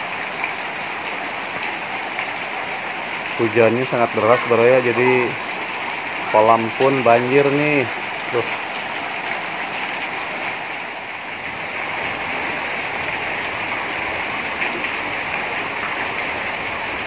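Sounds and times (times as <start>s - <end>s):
heavy rain splashing on water: 0.0s - 17.0s.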